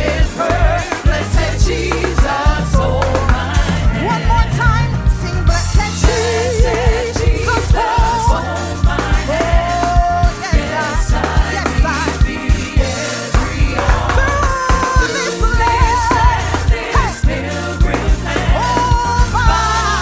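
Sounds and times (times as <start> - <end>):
gospel band playing: 0.0 - 20.0
person singing: 0.0 - 20.0.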